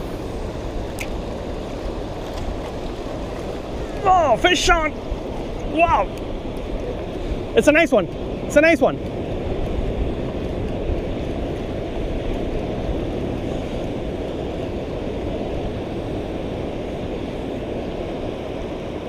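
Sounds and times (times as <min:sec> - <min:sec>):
waves against rocks: 0:00.0 - 0:19.0
wind on microphone: 0:00.0 - 0:19.0.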